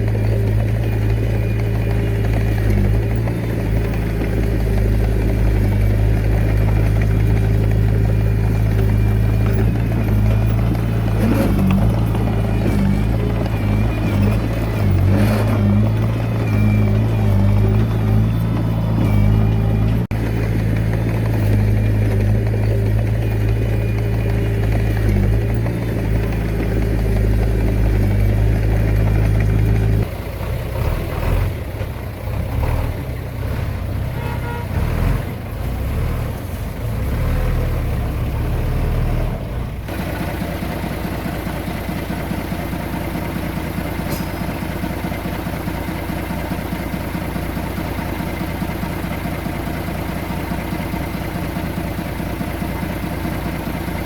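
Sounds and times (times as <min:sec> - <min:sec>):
engine knocks: 0:00.0 - 0:54.0
heavy machinery diesel engine: 0:00.0 - 0:54.0.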